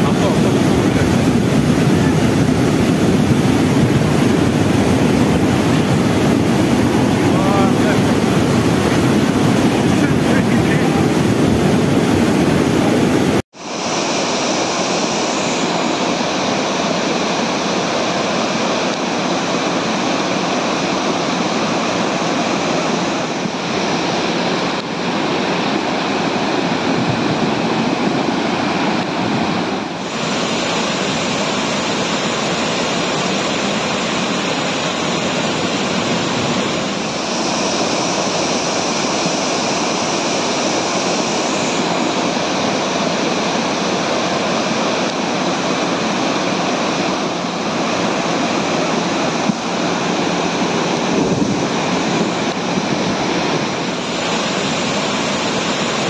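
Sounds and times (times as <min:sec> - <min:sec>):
flood water rushing: 0:00.0 - 0:56.0.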